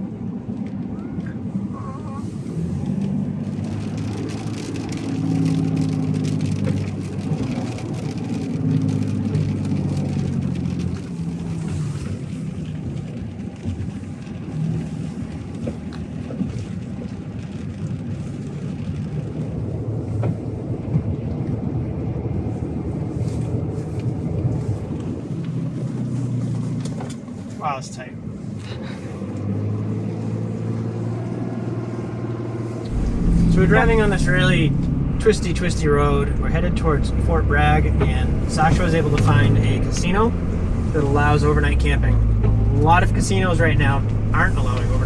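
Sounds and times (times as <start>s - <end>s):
truck engine: 0.0s - 16.4s, 18.7s - 45.0s
road noise: 0.0s - 45.0s.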